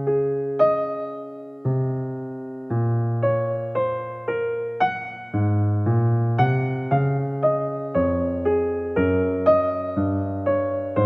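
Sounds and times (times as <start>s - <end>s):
piano chords: 0.0s - 11.0s.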